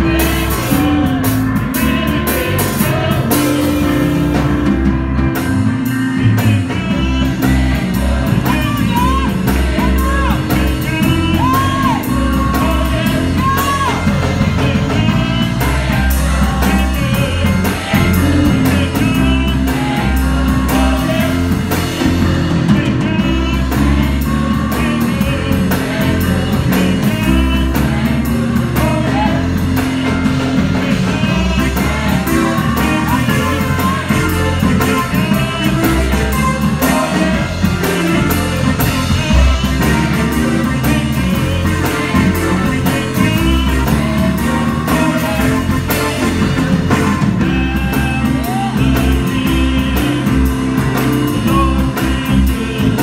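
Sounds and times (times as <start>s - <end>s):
drum kit: 0.0s - 53.0s
gospel choir singing: 0.0s - 53.0s
organ: 0.0s - 53.0s.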